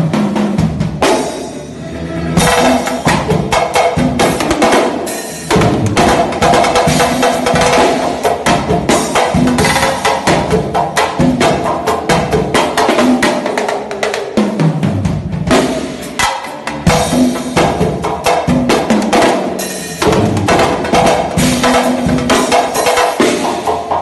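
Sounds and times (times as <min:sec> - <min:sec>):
hand drums playing fast groove: 0:00.0 - 0:01.6, 0:02.4 - 0:24.0
low drum notes: 0:00.0 - 0:24.0.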